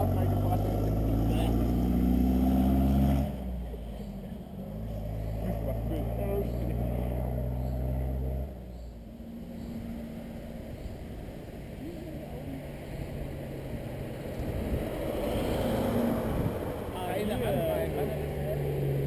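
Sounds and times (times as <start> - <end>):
rally car engine approaching: 0.0 - 19.0.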